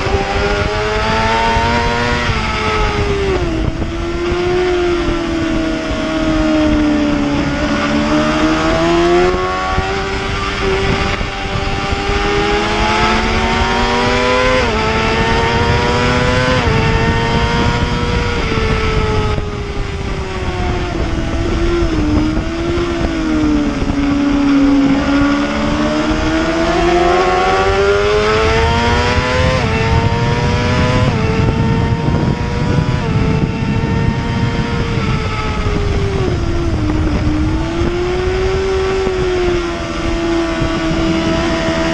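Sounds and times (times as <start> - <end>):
motorcycle engine at racing speed: 0.0 - 41.9.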